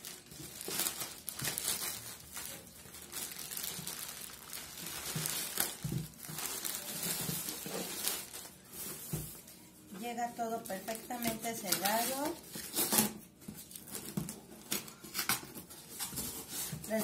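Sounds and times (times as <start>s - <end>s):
plastic bag crinkling and tearing: 0.0s - 9.4s, 10.6s - 17.0s.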